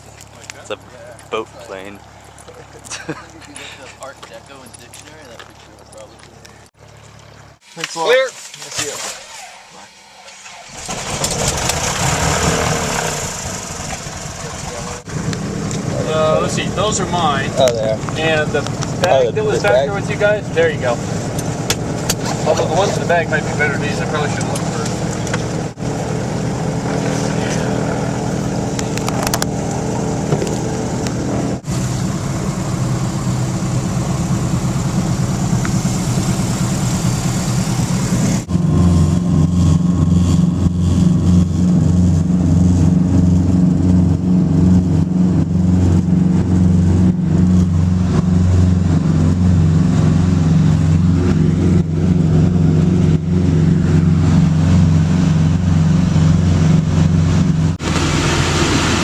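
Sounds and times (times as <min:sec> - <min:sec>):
propeller airplane engine running: 0:00.0 - 0:59.0.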